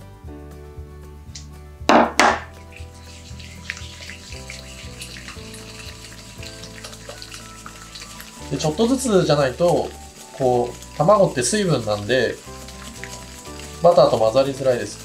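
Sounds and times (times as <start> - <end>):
background music: 0.0 - 15.0
wire whisk scraping glass bowl: 2.6 - 15.0.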